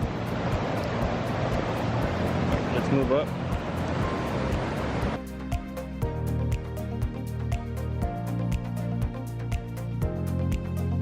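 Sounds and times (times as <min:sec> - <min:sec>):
beat-driven instrumental music: 0:00.0 - 0:11.0.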